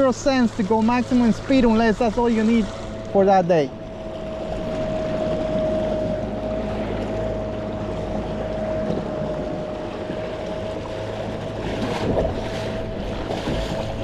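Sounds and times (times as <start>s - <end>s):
electric outboard motor whine: 0.0s - 14.0s
water rushing along hull: 0.0s - 14.0s.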